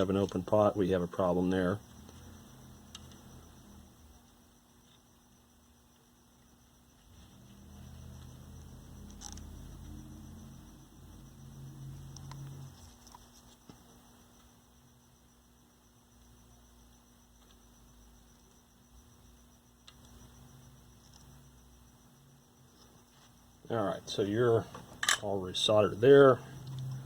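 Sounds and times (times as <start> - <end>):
faint electrical mains hum: 0.0 - 27.0.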